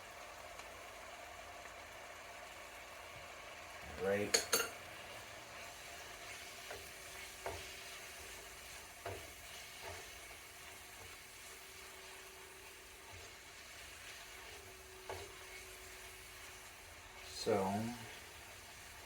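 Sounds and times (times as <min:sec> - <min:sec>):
spices sizzling in a pan: 0:00.0 - 0:19.0.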